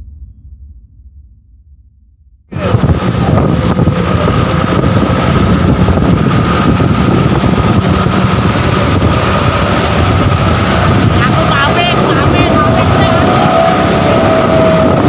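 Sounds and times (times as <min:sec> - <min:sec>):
constant engine whine: 0:02.5 - 0:15.0
vehicle engine droning: 0:02.5 - 0:15.0.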